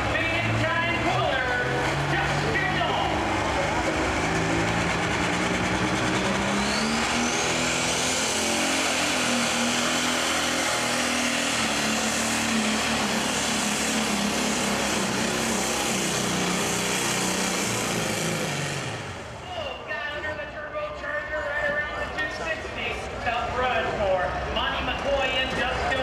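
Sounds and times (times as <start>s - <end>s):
diesel engine running flat out: 0.0s - 26.0s.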